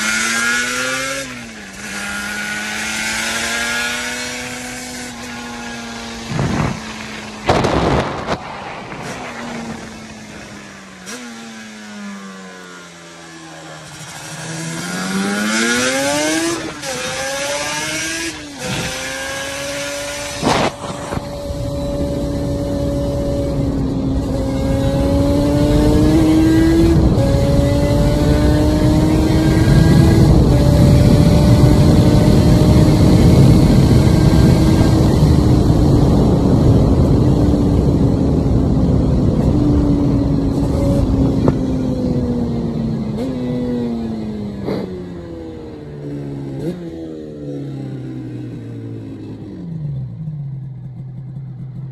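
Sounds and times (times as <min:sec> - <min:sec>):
wind rush: 0:00.0 - 0:12.0, 0:13.9 - 0:44.8
motorcycle engine upshifting: 0:00.0 - 0:51.9.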